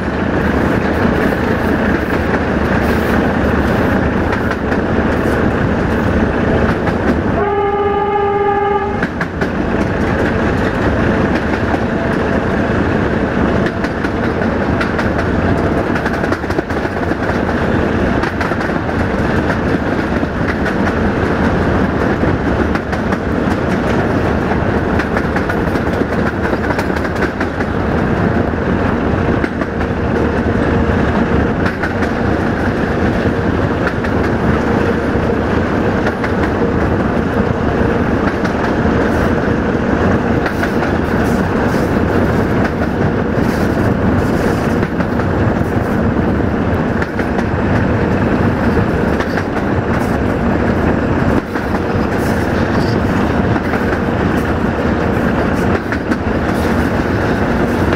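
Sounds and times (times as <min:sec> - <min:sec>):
diesel locomotive engine drone: 0:00.0 - 0:57.9.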